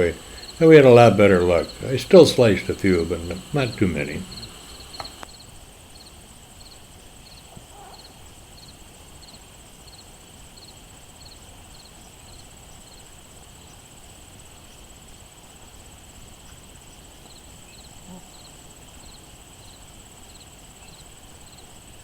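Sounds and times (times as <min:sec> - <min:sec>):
high-pitched insect trill: 0:00.0 - 0:21.6
crickets chirping: 0:00.0 - 0:22.0.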